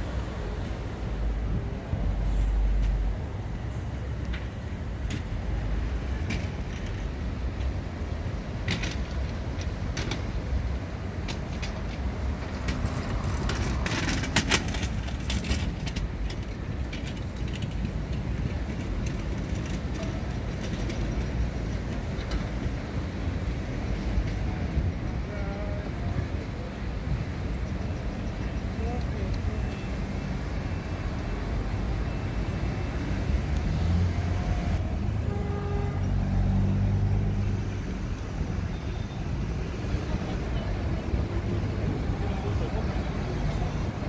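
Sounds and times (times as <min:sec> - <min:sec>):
cars idling and passing: 0:00.0 - 0:44.0.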